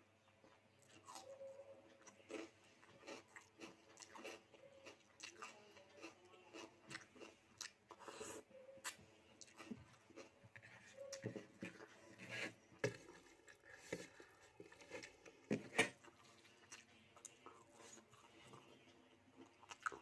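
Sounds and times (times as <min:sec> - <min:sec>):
person chewing: 0:00.4 - 0:20.0.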